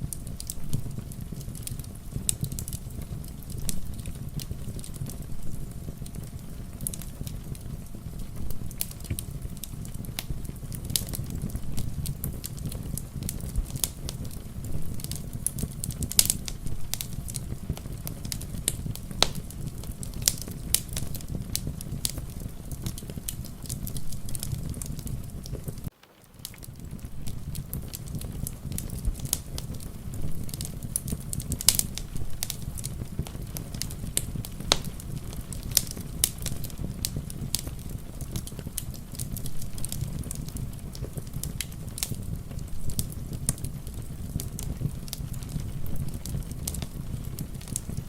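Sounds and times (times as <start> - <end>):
rain falling: 0.0 - 48.0
wood fire crackling and popping: 0.0 - 48.0.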